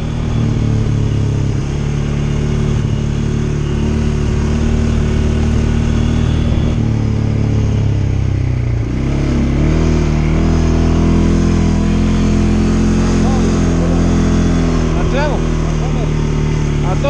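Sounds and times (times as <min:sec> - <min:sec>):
atv engine running under throttle: 0:00.0 - 0:17.0.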